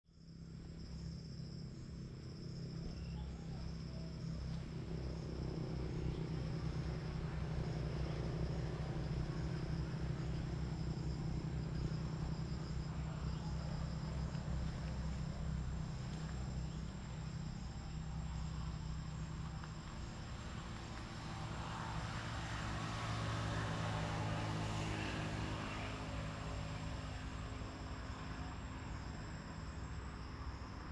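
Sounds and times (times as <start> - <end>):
insects trilling: 0.1 - 30.9
low steady hum: 0.2 - 30.9.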